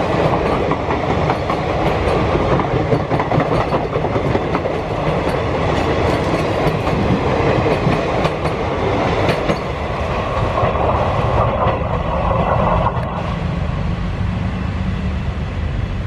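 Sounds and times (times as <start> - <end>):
train wheels clattering on rail joints: 0.0 - 13.2.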